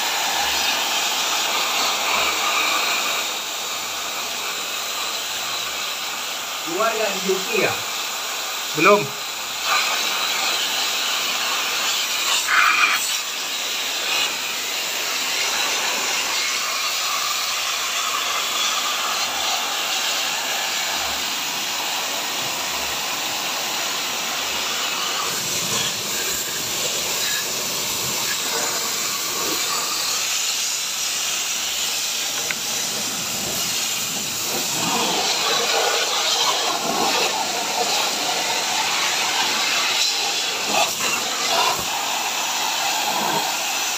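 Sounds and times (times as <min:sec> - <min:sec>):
pressure washer water jet hissing: 0:00.0 - 0:43.9.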